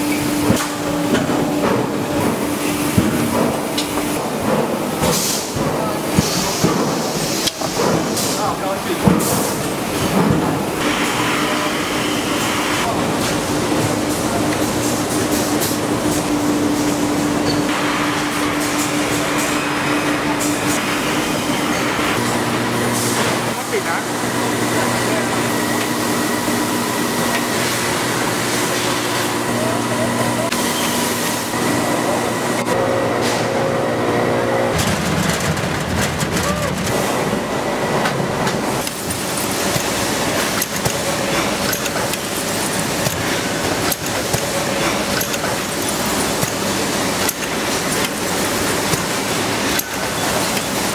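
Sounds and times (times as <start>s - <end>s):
factory machinery humming: 0.0s - 50.9s.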